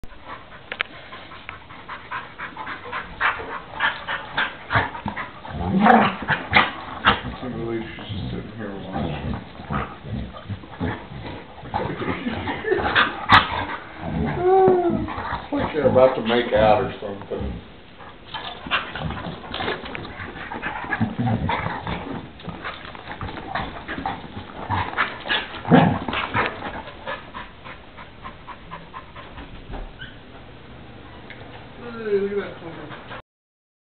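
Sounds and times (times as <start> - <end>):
dogs huffing and panting: 0.0 - 30.2.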